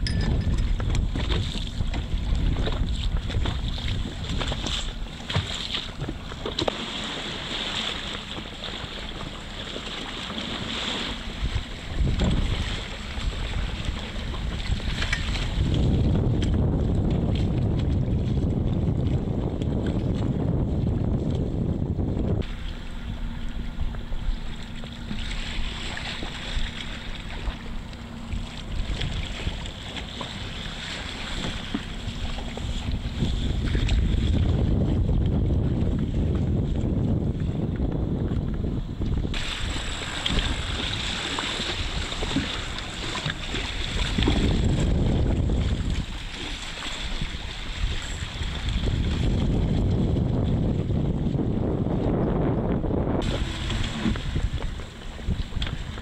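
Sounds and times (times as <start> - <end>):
low steady hum: 0.0 - 46.4, 48.0 - 56.0
choppy water splashing: 0.0 - 56.0
wind buffeting microphone: 0.0 - 56.0.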